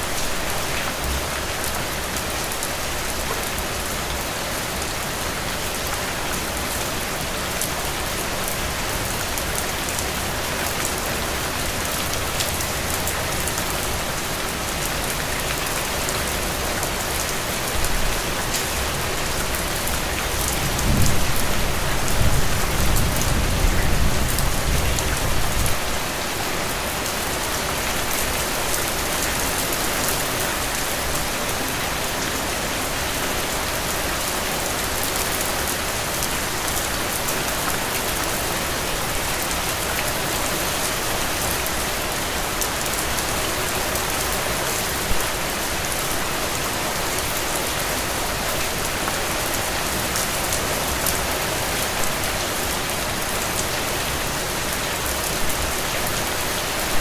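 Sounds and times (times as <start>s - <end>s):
heavy rain on soil and puddles: 0.0s - 57.0s.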